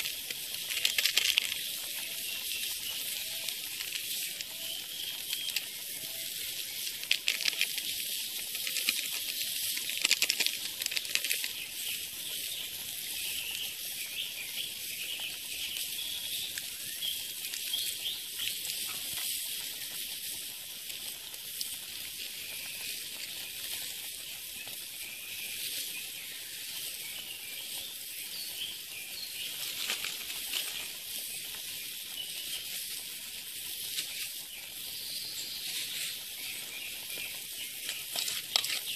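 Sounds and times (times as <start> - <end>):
boiling water hissing: 0.0 - 38.9
wood fire crackling: 0.0 - 38.9.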